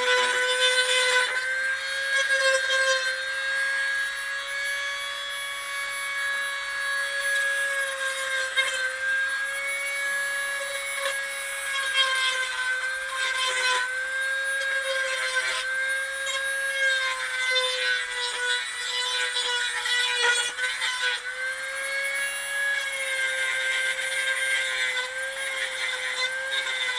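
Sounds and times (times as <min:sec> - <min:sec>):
electric saw cutting wood: 0:00.0 - 0:26.9.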